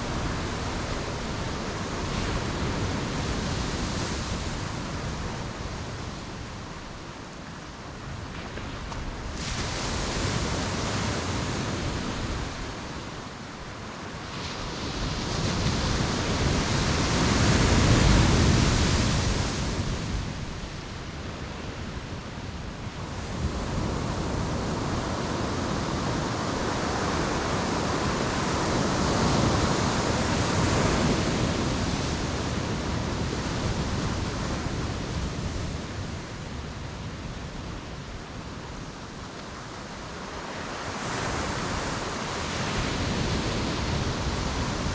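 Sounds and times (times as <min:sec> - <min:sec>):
ocean waves breaking on beach: 0:00.0 - 0:44.9.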